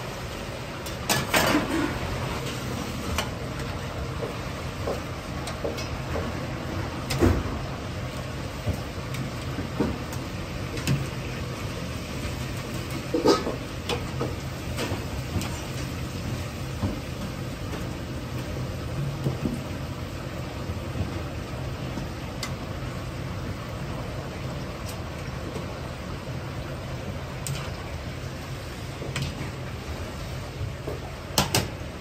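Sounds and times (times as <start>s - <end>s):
gas burner rumble: 0.0s - 32.0s
oil sizzling: 0.0s - 32.0s.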